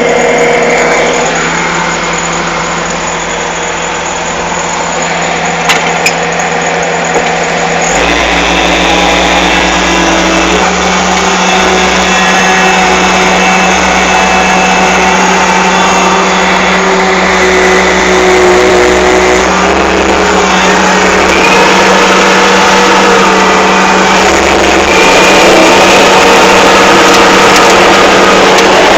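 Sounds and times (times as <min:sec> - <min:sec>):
deep hum: 0:00.0 - 0:28.9
excavator diesel engine running: 0:00.0 - 0:28.9
high whine: 0:00.0 - 0:28.9.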